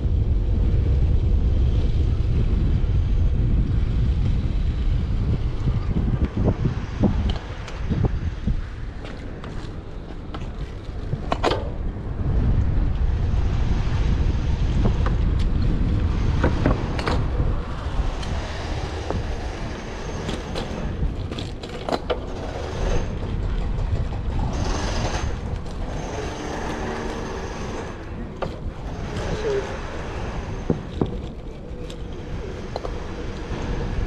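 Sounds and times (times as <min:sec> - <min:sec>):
bike clicks and rattles: 0:00.0 - 0:34.0
wind rumbling on microphone: 0:00.0 - 0:34.0.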